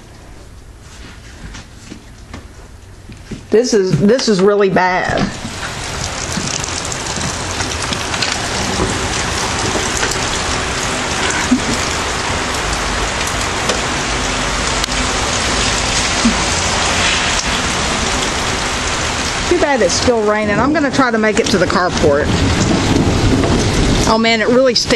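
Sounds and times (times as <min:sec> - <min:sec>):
torrential rain pouring: 0:00.0 - 0:24.9.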